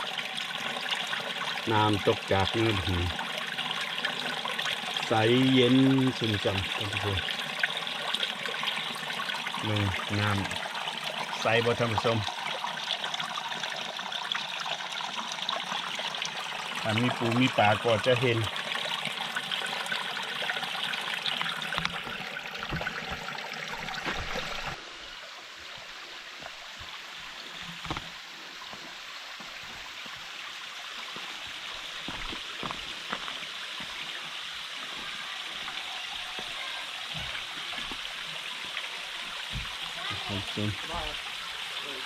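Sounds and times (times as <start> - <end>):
stream water trickling: 0.0 - 42.0.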